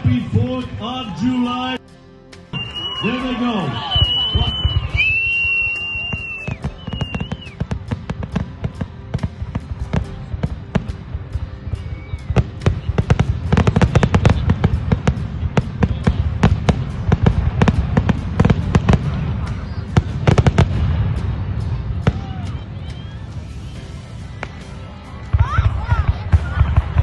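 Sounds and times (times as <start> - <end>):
fireworks bangs and crackles: 2.6 - 27.0.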